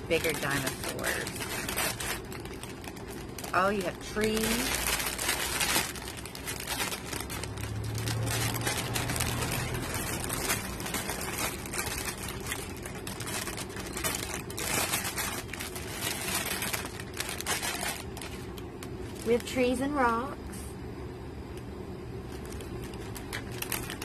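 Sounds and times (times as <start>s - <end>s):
plastic packaging crinkling: 0.0s - 19.8s, 22.2s - 24.0s.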